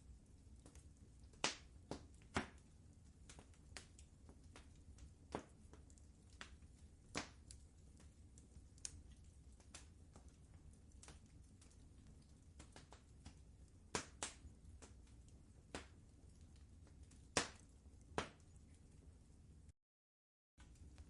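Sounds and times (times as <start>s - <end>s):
faint low rumble: 0.0s - 19.7s
wood fire crackling: 0.0s - 19.7s, 20.6s - 21.0s.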